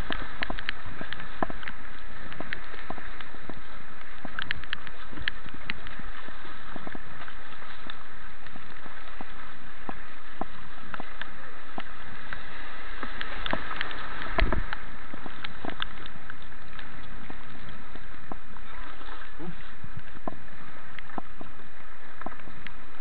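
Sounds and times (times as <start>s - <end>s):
sharp splashes and knocks: 0.0s - 21.6s
rushing white water: 0.0s - 23.0s.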